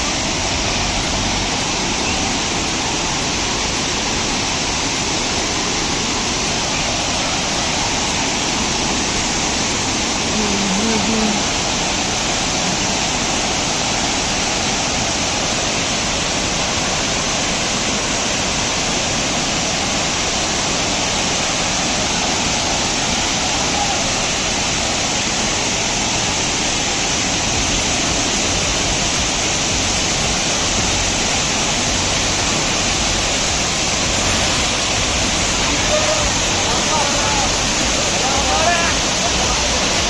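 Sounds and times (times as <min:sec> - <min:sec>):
waterfall rushing over rock: 0:00.0 - 0:40.0.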